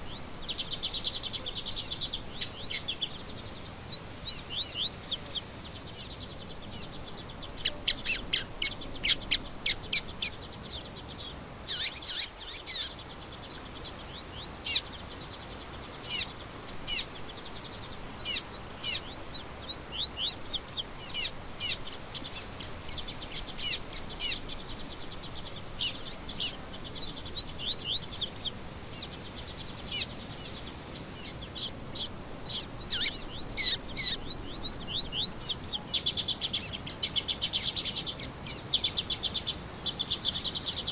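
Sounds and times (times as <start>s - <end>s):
faint background hiss: 0.0s - 40.9s
songbirds chirping and singing: 0.0s - 40.9s.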